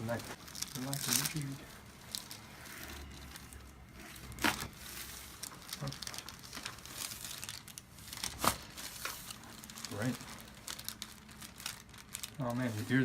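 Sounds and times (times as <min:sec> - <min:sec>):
crinkling and rustling: 0:00.0 - 0:13.0.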